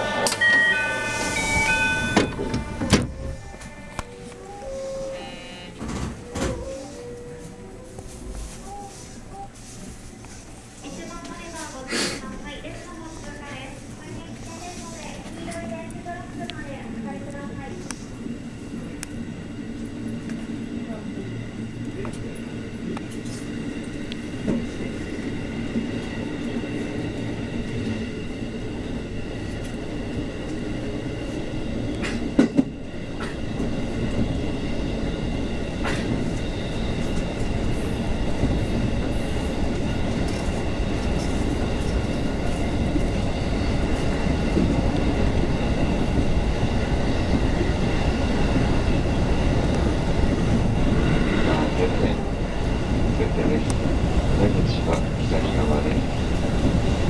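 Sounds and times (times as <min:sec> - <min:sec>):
train wheels rumbling on rail: 0:00.0 - 0:05.1, 0:05.8 - 0:57.0.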